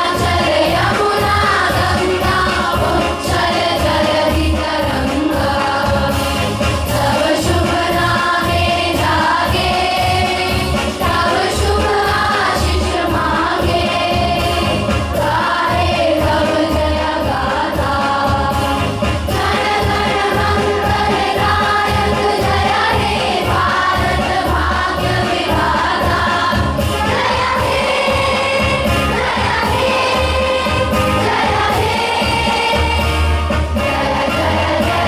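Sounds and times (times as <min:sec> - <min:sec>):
group singing over a beat: 0:00.0 - 0:35.0.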